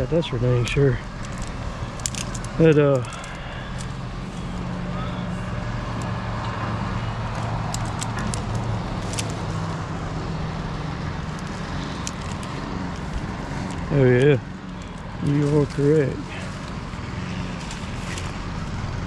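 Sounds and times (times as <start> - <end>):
large engine idling: 0.0 - 19.0.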